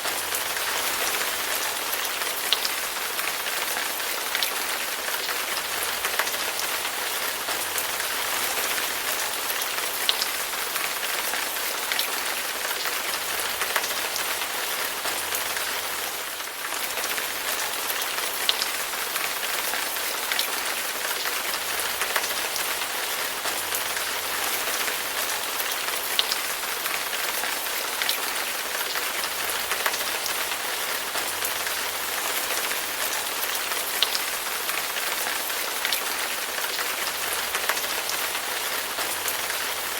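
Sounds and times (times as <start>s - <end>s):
steady rain on hard surface: 0.0s - 39.9s.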